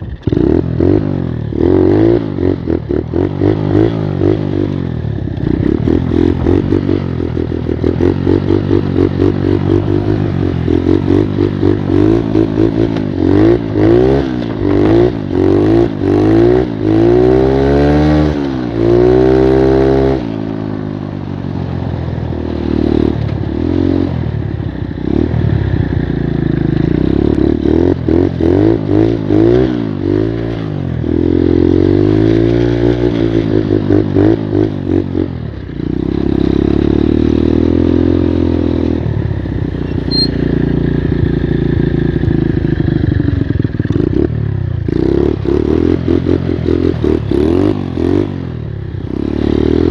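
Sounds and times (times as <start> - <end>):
moped engine revving: 0.0 - 49.9.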